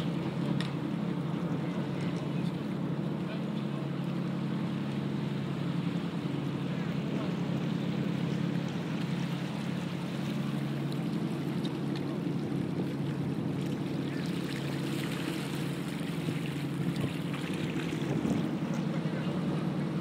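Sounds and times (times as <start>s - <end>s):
boat engine droning: 0.0s - 20.0s
fast-flowing water rushing: 0.0s - 20.0s.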